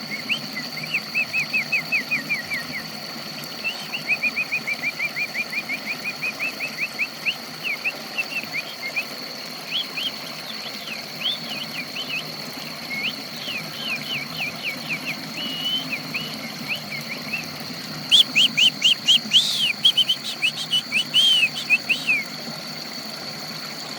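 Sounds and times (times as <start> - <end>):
songbird singing: 0.0 - 2.9, 3.6 - 22.3.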